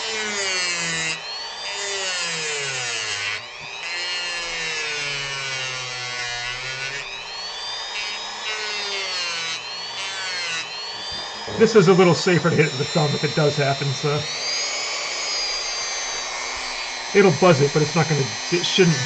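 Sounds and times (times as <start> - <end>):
rotary tool sanding wood: 0.0 - 19.0.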